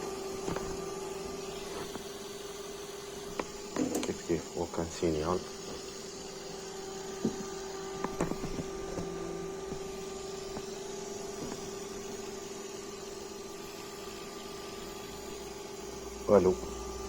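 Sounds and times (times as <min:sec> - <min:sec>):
computer fans humming: 0:00.0 - 0:17.0.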